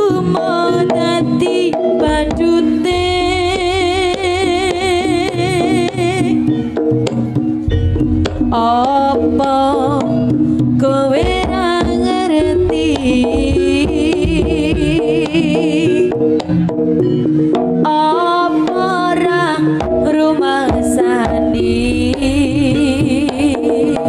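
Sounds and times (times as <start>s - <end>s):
hand drums beating: 0.0s - 24.0s.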